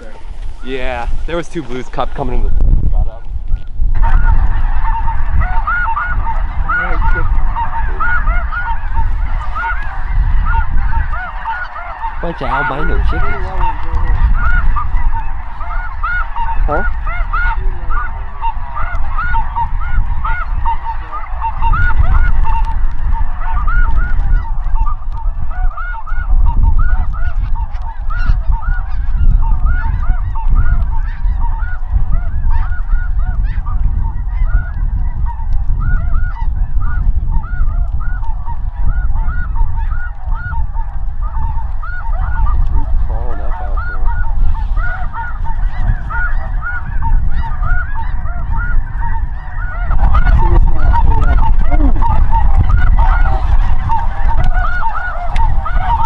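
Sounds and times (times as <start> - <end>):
geese honking and yelping: 0.0 - 56.0.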